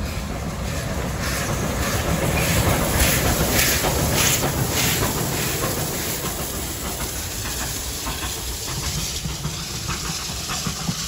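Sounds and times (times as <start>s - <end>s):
steam hissing: 0.0s - 11.0s
train wheels on rails: 0.0s - 11.0s.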